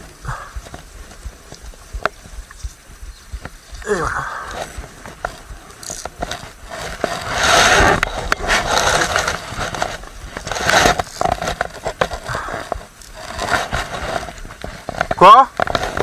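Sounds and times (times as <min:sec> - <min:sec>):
rustling and scraping: 0:00.0 - 0:16.0.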